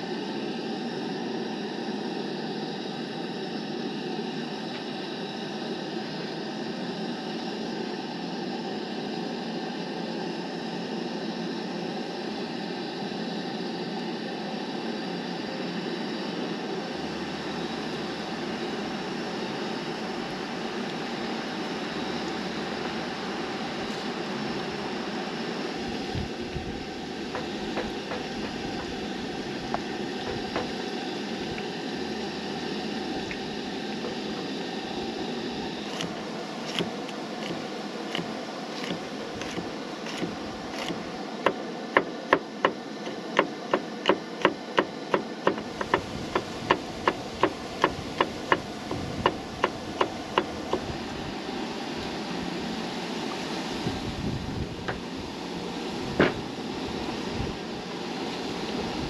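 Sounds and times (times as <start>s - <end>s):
camp stove hissing: 0.0s - 59.0s.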